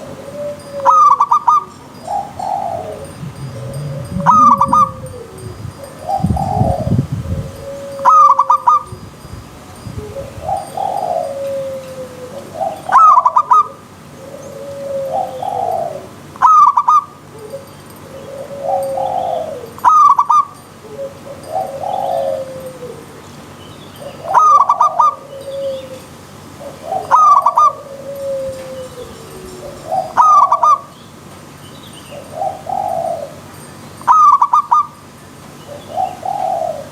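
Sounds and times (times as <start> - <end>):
doves cooing: 0.0 - 8.9, 10.1 - 23.3, 24.1 - 30.9, 32.1 - 33.5, 35.7 - 36.9.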